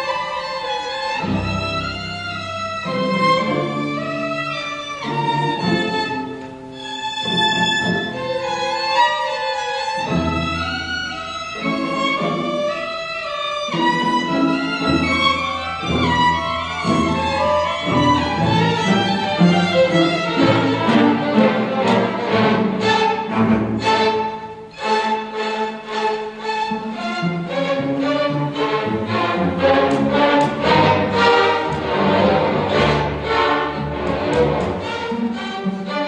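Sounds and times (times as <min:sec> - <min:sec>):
string orchestra playing fast: 0:00.0 - 0:36.0
violin line: 0:00.0 - 0:36.0.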